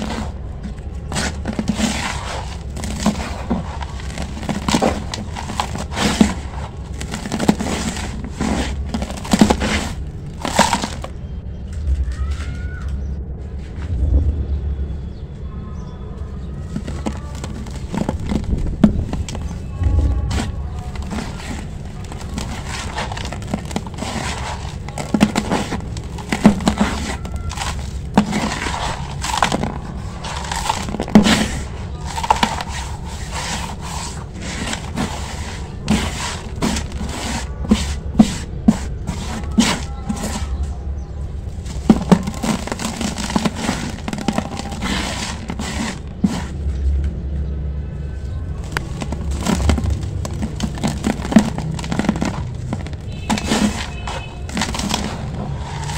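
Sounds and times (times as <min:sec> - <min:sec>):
crunchy cracks of crumbling cement: 0:00.0 - 0:13.0, 0:16.7 - 0:47.2, 0:48.5 - 0:55.9.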